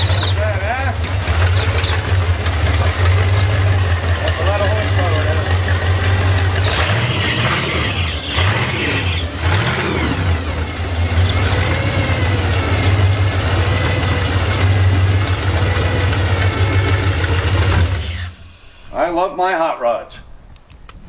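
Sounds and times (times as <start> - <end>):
dragster engine revving and idling: 0.0 - 19.1.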